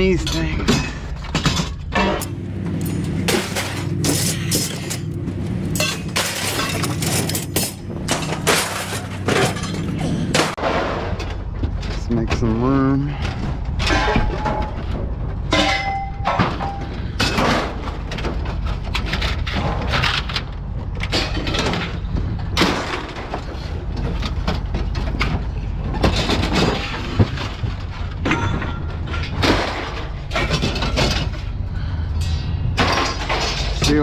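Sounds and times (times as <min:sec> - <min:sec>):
steady low hum: 0:00.0 - 0:34.0
steel shelving clanking and banging: 0:00.0 - 0:34.0.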